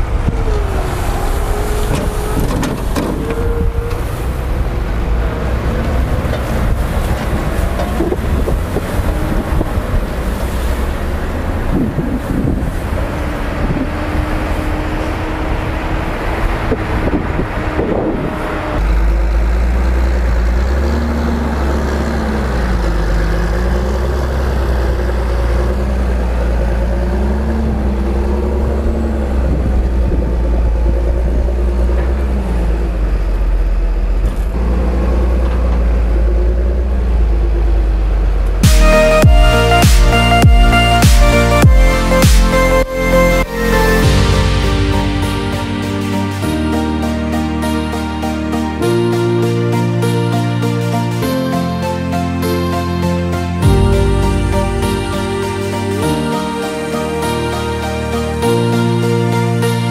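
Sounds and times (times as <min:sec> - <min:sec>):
tractor engine low hum: 0:00.0 - 0:51.2, 0:52.4 - 0:59.9
tractor engine and machinery: 0:00.0 - 0:59.9.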